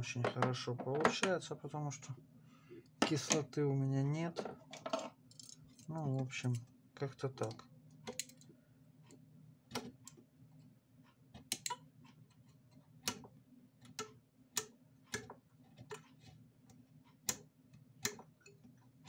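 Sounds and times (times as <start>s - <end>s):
low steady hum: 0.0s - 15.8s.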